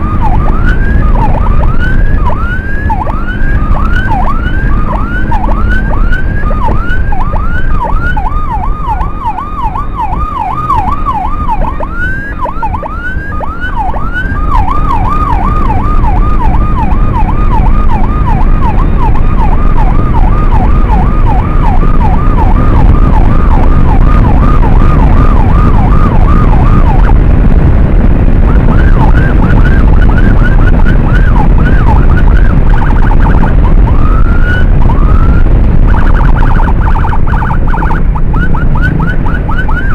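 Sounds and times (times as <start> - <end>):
electronic siren yelping: 0.0 - 39.9
wind and motorcycle engine rumble: 0.0 - 39.9.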